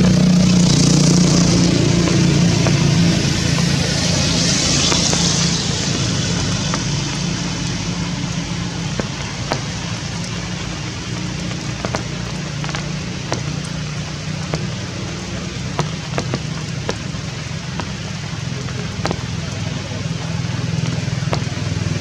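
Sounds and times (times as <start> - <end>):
drops ticking on hard surface: 0.0 - 22.0
steady rain falling: 0.0 - 22.0.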